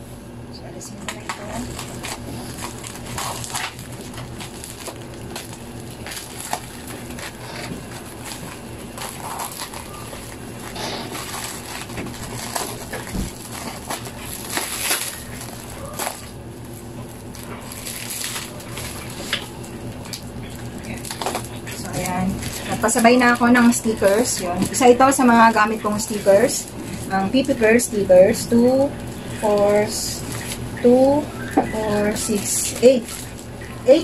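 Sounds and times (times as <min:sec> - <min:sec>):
plastic wrap crinkling: 0:01.1 - 0:34.0.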